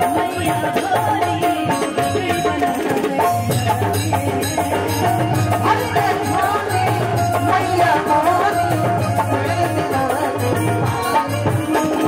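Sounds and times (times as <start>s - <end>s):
band melody line: 0.0s - 12.0s
hand-drum percussion: 0.0s - 12.0s.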